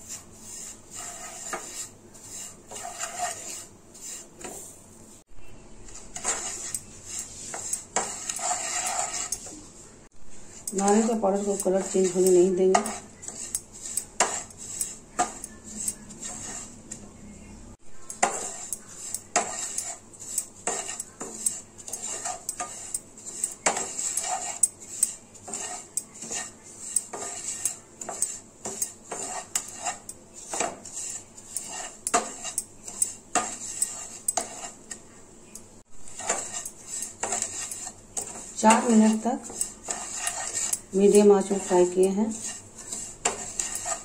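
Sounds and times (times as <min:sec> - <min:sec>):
spatula scraping frying pan: 0:00.0 - 0:04.8, 0:05.8 - 0:17.0, 0:18.0 - 0:44.0.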